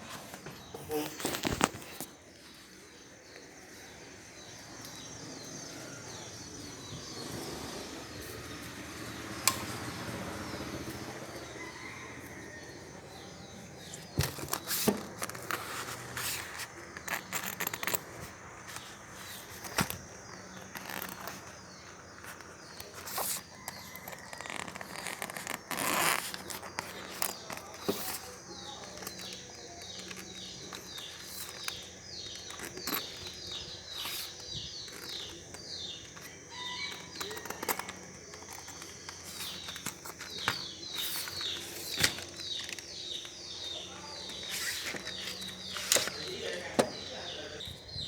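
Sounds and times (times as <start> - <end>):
faint steady background noise: 0.0 - 48.0.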